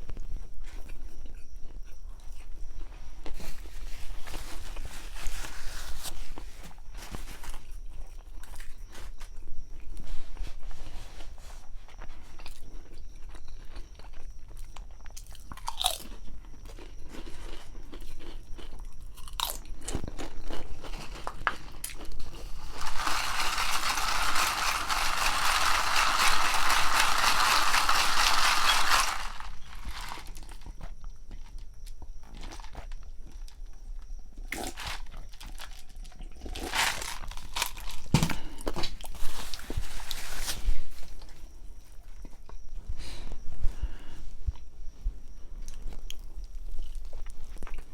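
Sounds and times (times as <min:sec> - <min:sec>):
chewing and crunching sandwich: 0:00.0 - 0:47.9.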